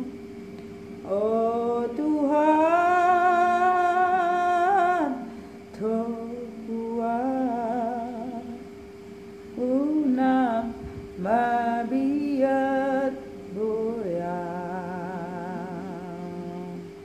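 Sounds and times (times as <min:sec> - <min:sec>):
woman singing slowly: 0:00.0 - 0:00.2, 0:01.0 - 0:08.8, 0:09.6 - 0:16.9.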